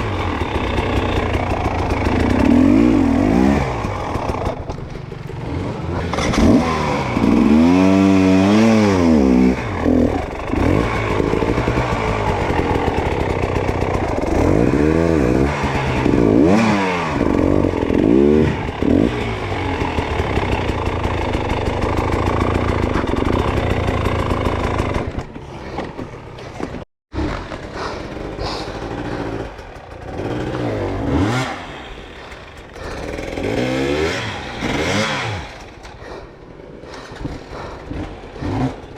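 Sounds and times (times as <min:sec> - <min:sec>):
dirt bike engine revving: 0:00.0 - 0:26.4, 0:27.2 - 0:38.9.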